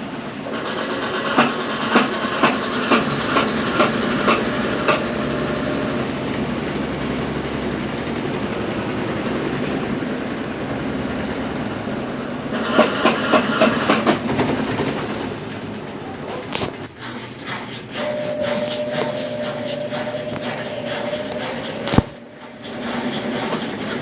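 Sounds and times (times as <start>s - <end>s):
washing machine agitator knocking: 0.0s - 24.0s
washing machine running: 0.0s - 24.0s.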